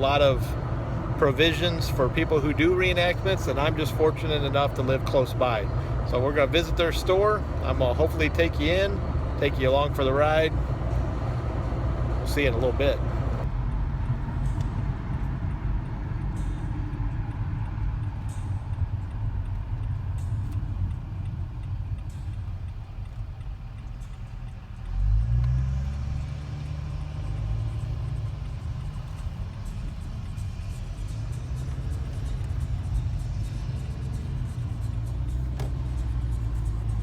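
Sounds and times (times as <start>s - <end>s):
car road and engine rumble: 0.0s - 37.0s.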